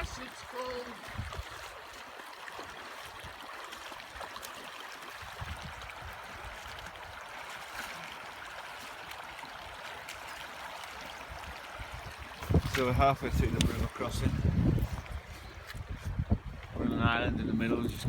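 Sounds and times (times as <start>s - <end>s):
river water rushing: 0.0s - 15.3s.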